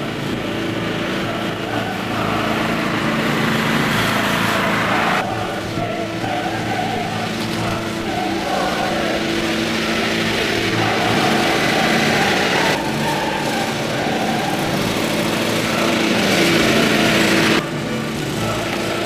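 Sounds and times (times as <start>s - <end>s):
riding lawn mower engine: 0.0s - 19.0s.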